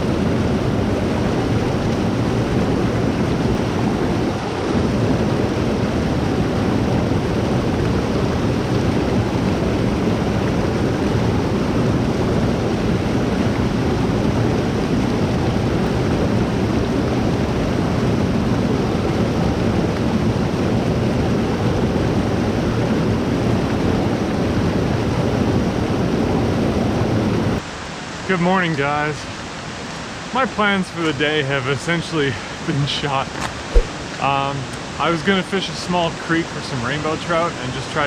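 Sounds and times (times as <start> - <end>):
creek water rushing: 0.0 - 20.1, 27.6 - 38.0.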